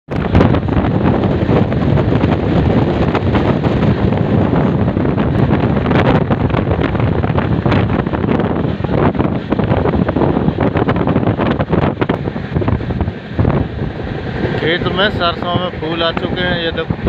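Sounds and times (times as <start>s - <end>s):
train rumbling on track: 0.1s - 17.0s
wind buffeting microphone: 0.1s - 17.0s.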